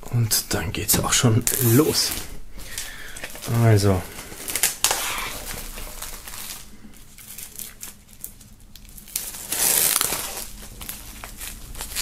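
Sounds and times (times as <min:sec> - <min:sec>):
plastic shrink-wrap crinkling: 0:01.0 - 0:12.0.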